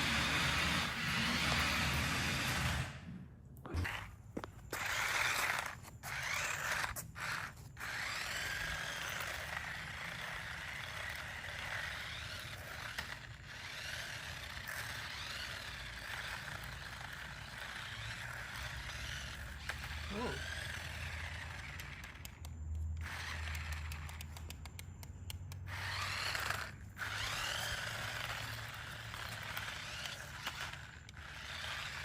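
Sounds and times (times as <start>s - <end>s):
toy car motors whirring: 0.0s - 32.0s.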